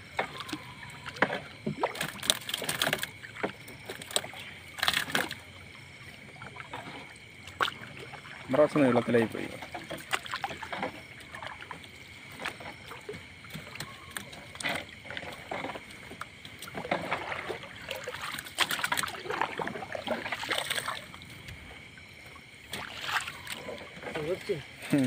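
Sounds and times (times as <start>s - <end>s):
water splashing and dripping: 0.0s - 25.0s.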